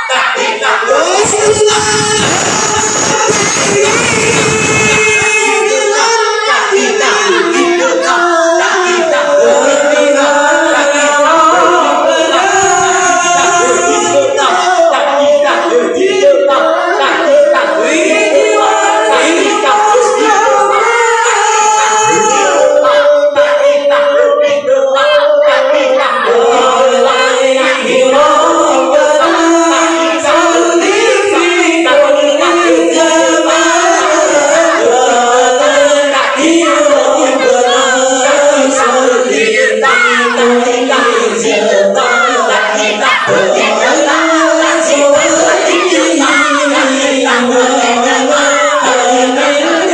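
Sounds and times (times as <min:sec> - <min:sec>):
congregation chanting in unison: 0:00.0 - 0:49.9.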